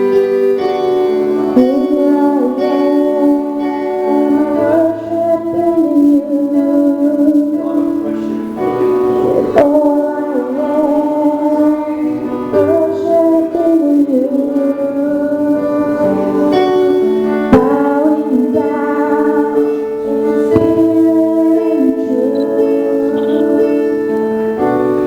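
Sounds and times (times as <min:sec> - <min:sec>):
keyboard chords: 0:00.0 - 0:25.0
person singing long notes: 0:00.0 - 0:25.0.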